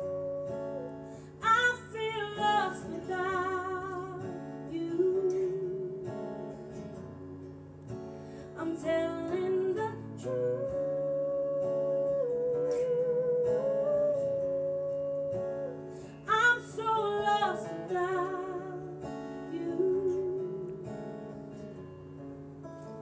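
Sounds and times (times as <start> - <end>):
woman singing: 0.0 - 21.9
acoustic guitar: 0.0 - 23.0.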